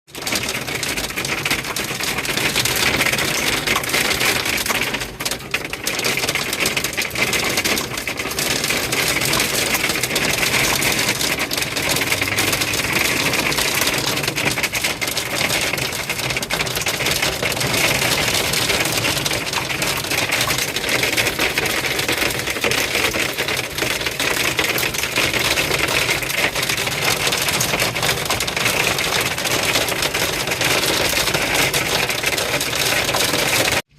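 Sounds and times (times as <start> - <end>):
hail clattering on a car: 0.1 - 33.9.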